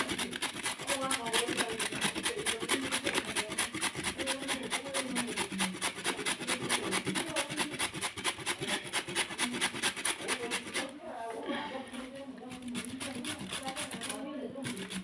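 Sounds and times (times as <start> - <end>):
rhythmic scraping: 0.0 - 15.0.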